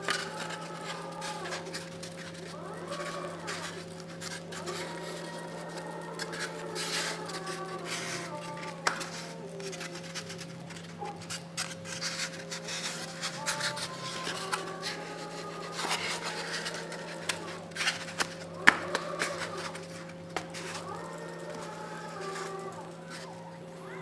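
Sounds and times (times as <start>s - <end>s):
machine humming with whines: 0.0s - 24.0s
scraping and rubbing: 0.0s - 24.0s.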